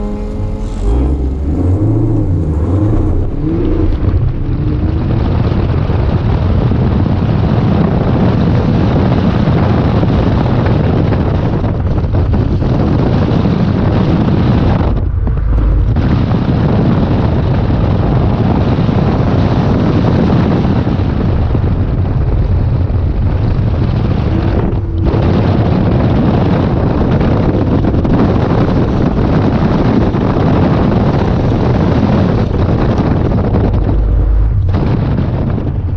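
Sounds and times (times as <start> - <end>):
car engine running hard: 0.0 - 35.9
wind buffeting on microphone: 0.0 - 35.9.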